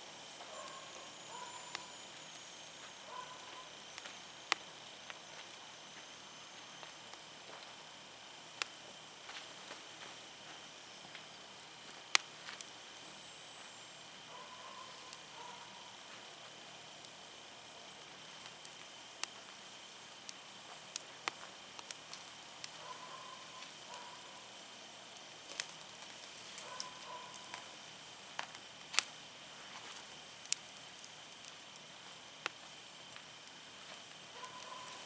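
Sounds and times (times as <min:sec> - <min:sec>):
faint steady hiss: 0:00.0 - 0:35.0
firewood crackling and popping: 0:00.0 - 0:35.0.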